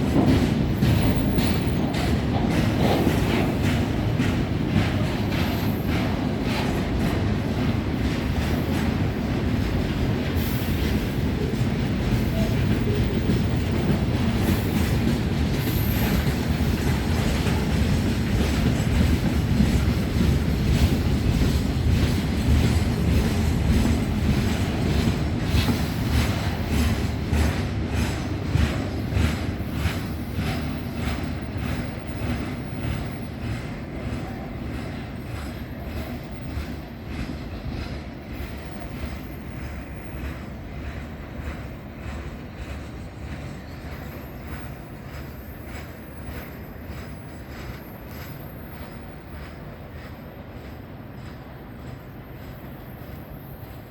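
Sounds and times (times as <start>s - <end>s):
freight train wagons rumbling: 0.0s - 53.9s.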